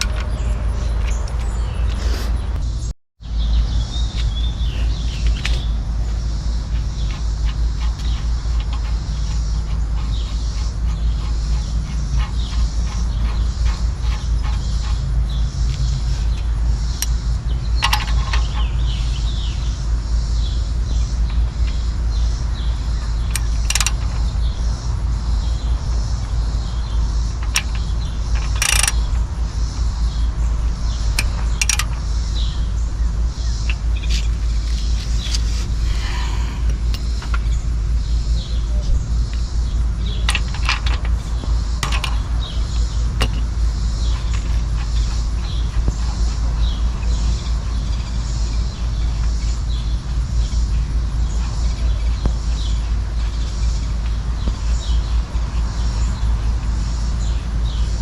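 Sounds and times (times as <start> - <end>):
birds chirping: 0.0 - 58.0
steady low rumble: 0.0 - 58.0.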